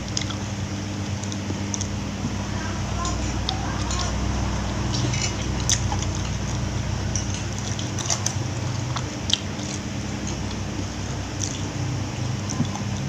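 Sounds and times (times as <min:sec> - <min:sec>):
steady low hum: 0:00.0 - 0:13.0
chewing and wet mouth noises: 0:00.1 - 0:00.5, 0:01.1 - 0:02.4, 0:03.0 - 0:13.0.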